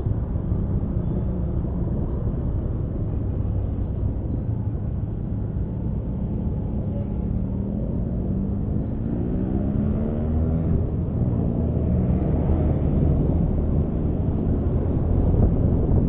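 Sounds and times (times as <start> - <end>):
road and wind rumble: 0.0 - 16.0.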